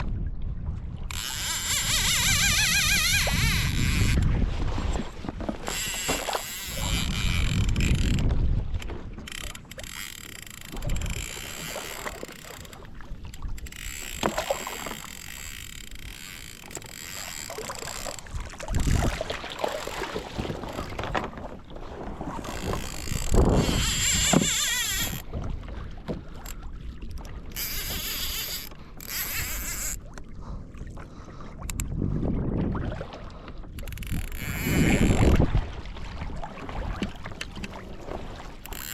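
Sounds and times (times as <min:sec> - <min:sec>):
wind on microphone: 0:00.0 - 0:21.3, 0:21.9 - 0:26.1, 0:31.2 - 0:38.9
water splashing against kayak hull: 0:00.0 - 0:38.9.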